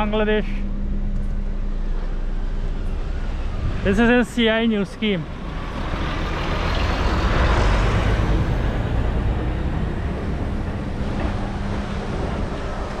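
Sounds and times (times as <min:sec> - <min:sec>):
vehicle passing by: 0:01.7 - 0:13.0.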